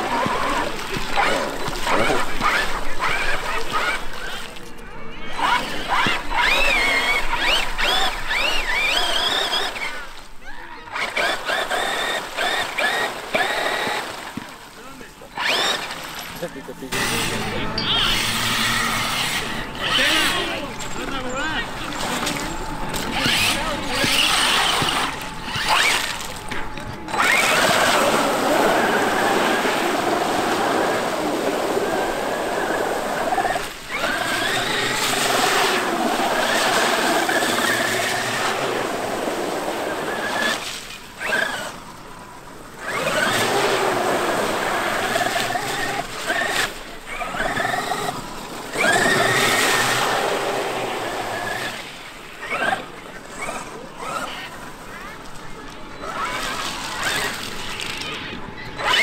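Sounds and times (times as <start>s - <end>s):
electric toy truck motors whining: 0.0s - 59.0s.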